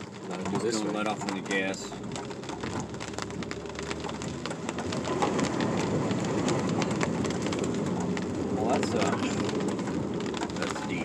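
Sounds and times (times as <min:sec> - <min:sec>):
rain ticking on windshield: 0:00.0 - 0:11.0
van engine: 0:00.0 - 0:11.0
water rushing and splashing under vehicle: 0:00.0 - 0:11.0.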